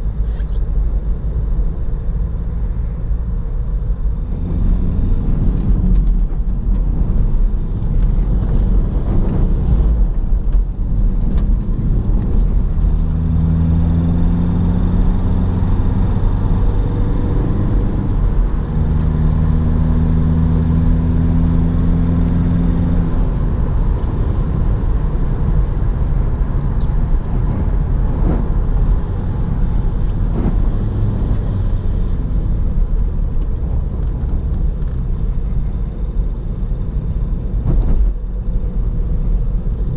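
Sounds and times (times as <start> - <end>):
car engine and road rumble: 0.0 - 39.9
steady engine hum: 0.0 - 39.9.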